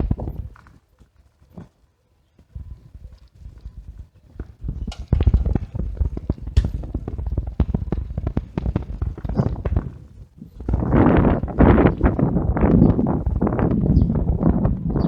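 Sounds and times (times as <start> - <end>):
bicycle rattling and knocking: 0.0 - 1.8, 3.0 - 15.0.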